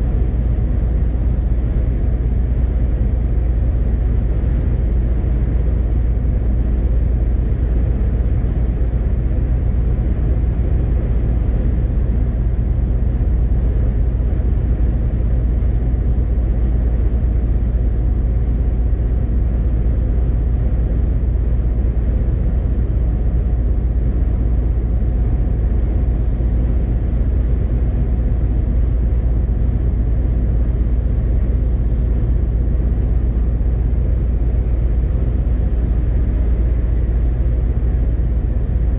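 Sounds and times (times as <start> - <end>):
truck diesel engine drone: 0.0 - 38.9.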